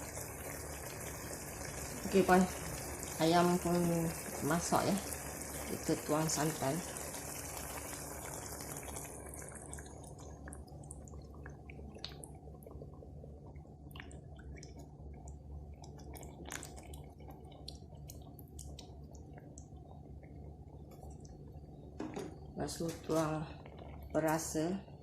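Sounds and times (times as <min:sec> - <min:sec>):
pot bubbling on stove: 0:00.0 - 0:25.0.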